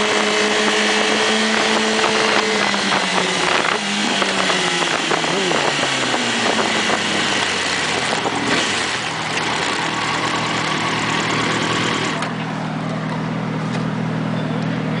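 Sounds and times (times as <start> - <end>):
motorcycle engine running: 0.0 - 15.0
wind and road rush: 0.0 - 15.0.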